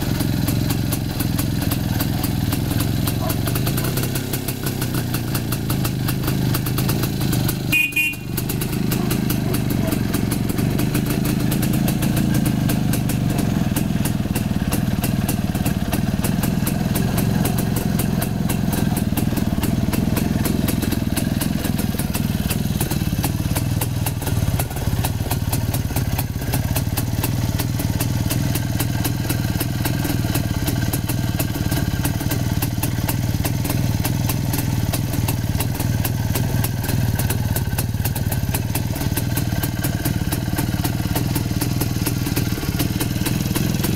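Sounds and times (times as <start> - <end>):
two-stroke motorcycle engine running: 0.0 - 43.9.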